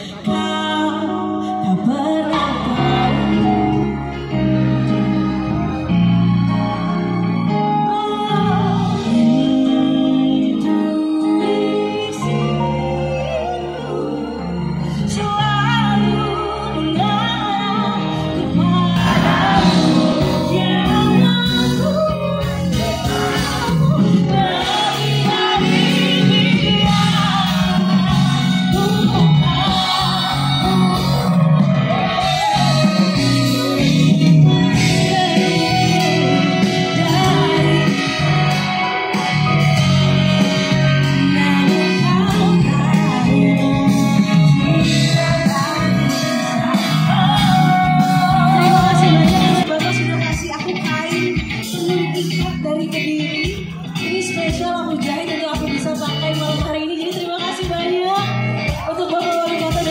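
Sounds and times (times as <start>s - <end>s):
woman singing into microphone: 0.0s - 5.0s, 7.6s - 39.6s, 40.4s - 59.9s
live band playing: 0.0s - 59.9s.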